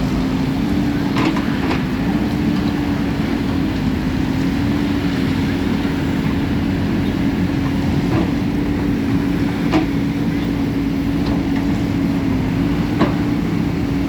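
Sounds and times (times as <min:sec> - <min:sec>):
diesel machinery engine drone: 0:00.0 - 0:14.0.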